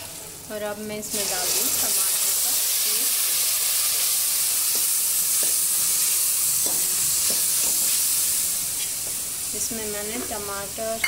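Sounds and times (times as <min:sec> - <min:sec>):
paste sizzling in hot oil: 0:00.9 - 0:11.0.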